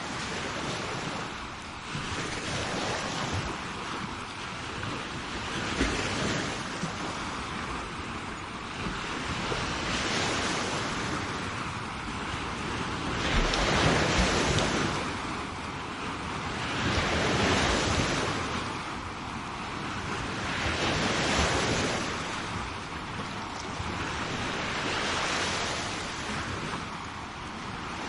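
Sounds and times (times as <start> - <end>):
sea waves breaking on shore: 0.0 - 28.0.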